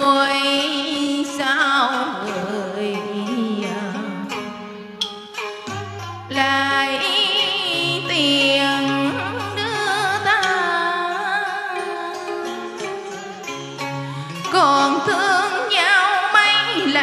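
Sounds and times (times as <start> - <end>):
woman singing with vibrato: 0.0 - 4.6, 6.3 - 13.4, 14.0 - 17.0
instrumental backing with bass: 3.2 - 17.0.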